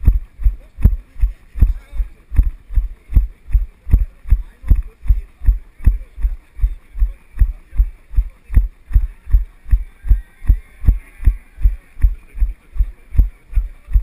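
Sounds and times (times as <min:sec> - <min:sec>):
running footsteps thumping: 0:00.0 - 0:14.0.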